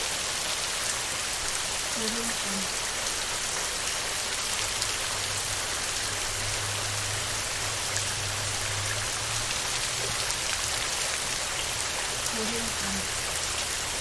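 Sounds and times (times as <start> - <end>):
heavy rain on a metal roof: 0.0 - 14.0.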